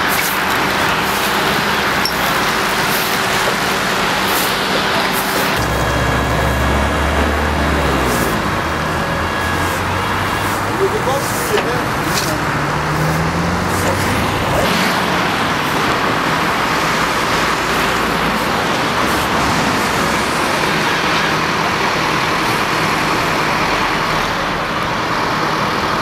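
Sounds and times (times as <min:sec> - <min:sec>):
cars passing on wet road: 0:00.0 - 0:26.0.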